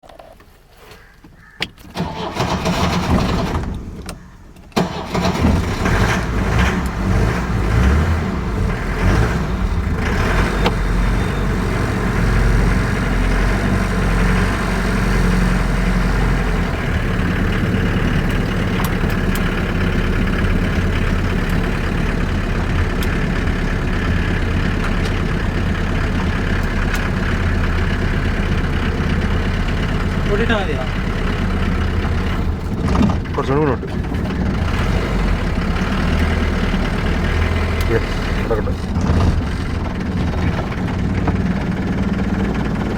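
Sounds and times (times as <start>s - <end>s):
car engine cranking and starting: 1.2s - 42.9s
car engine idling: 1.4s - 42.9s.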